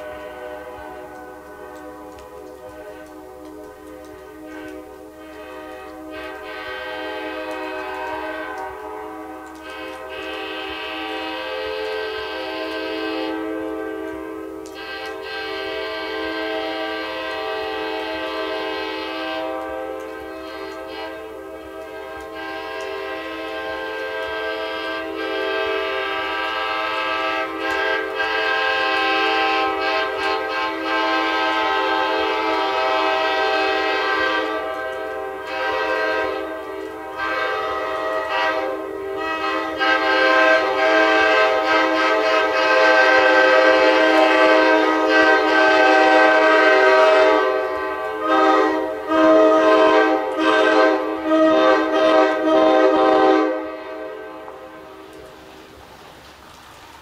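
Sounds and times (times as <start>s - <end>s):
air horn chord blasts: 0.0s - 55.0s.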